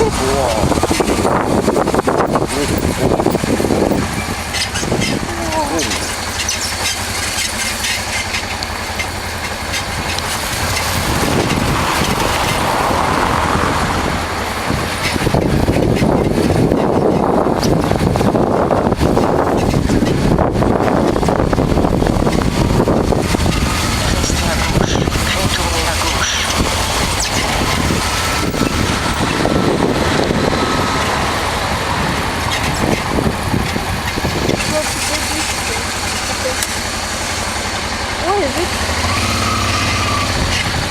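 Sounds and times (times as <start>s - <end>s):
motorcycle engine rumbling: 0.0s - 40.9s
road and wind noise: 0.0s - 40.9s.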